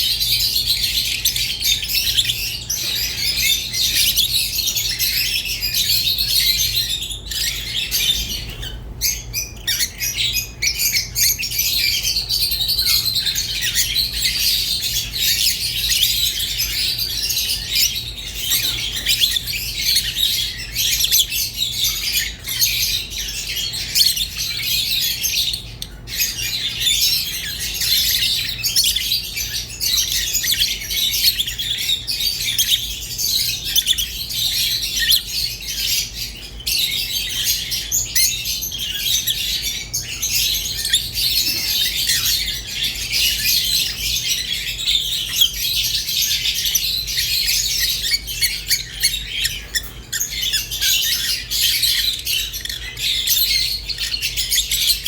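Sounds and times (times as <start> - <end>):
lovebirds chattering and chirping: 0.0 - 55.0.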